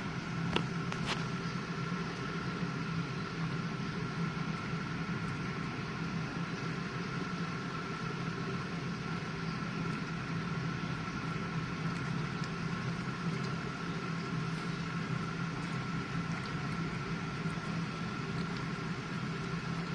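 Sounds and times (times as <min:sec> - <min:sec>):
dishwasher motor hum: 0:00.0 - 0:19.9.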